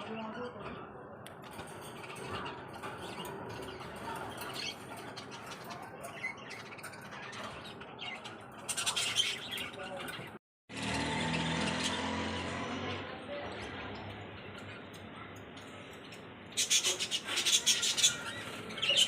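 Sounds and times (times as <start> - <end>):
parrots chirping and squawking: 1.5 - 12.7, 13.5 - 19.0.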